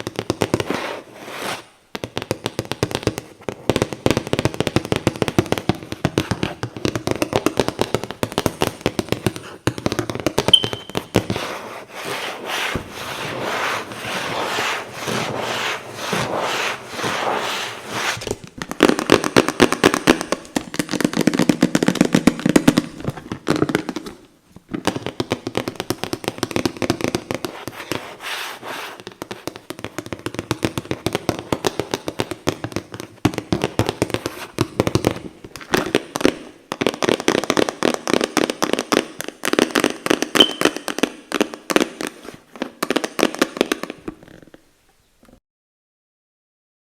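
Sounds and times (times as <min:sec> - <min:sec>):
rapid tapping and scratching on boxes: 0:00.0 - 0:40.8.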